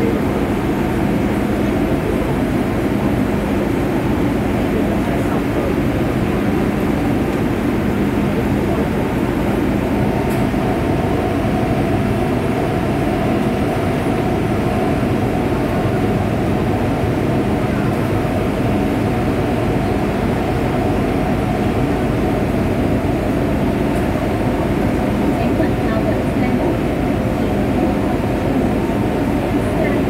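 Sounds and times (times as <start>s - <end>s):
metro train equipment hum: 0.0s - 30.0s.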